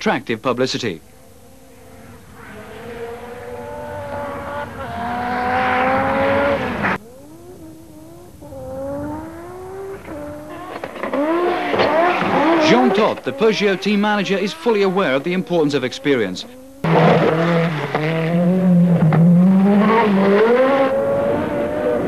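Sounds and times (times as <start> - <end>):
rally car engine accelerating: 1.1 - 22.0.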